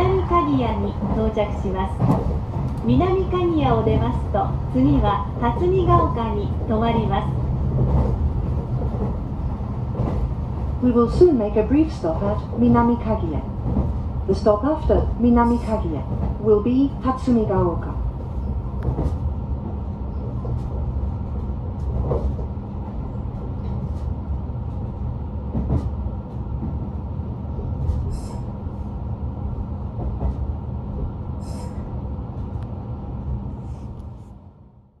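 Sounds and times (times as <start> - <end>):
train wheels rumbling on rails: 0.0 - 34.4.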